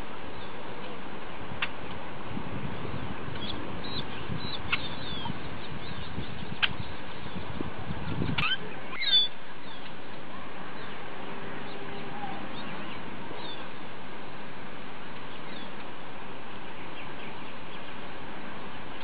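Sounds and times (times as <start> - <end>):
birds chirping: 0.0 - 14.4, 15.0 - 19.0
steady ambient hiss: 0.0 - 19.0.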